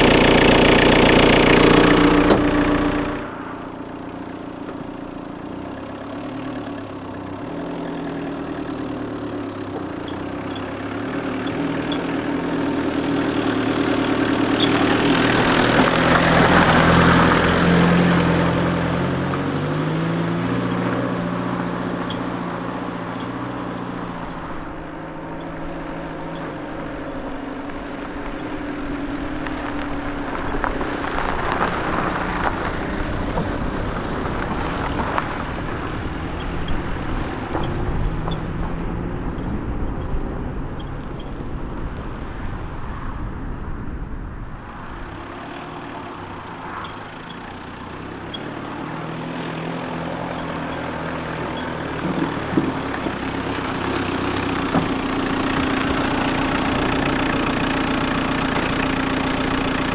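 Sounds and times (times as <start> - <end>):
diesel van engine driving: 0.0 - 59.9.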